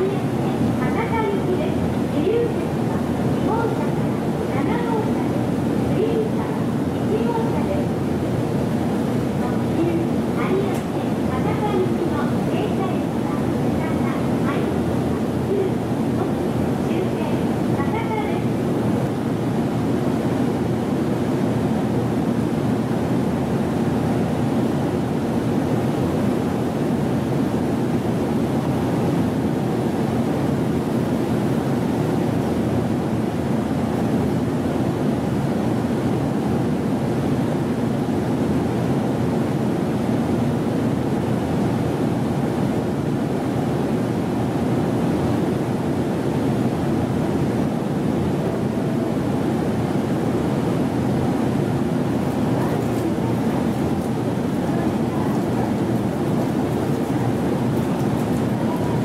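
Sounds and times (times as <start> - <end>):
electric train humming at platform: 0.0 - 59.0.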